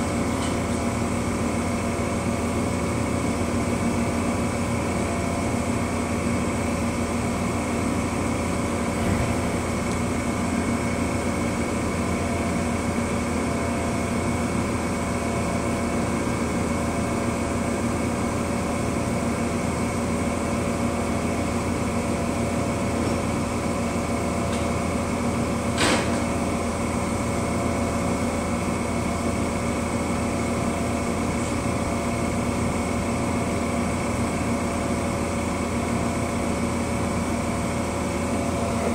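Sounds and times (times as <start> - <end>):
idling train mechanical hum: 0.0 - 38.9.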